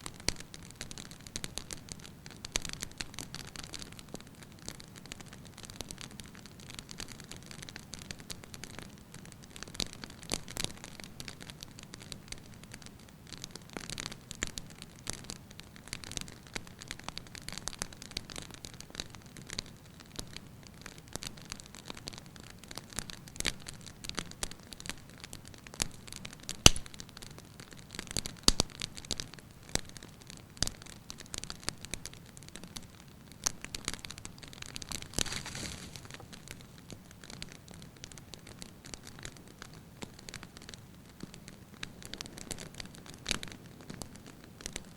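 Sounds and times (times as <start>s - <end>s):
fire crackling and popping: 0.0s - 44.9s
soft fire hiss: 0.0s - 44.9s.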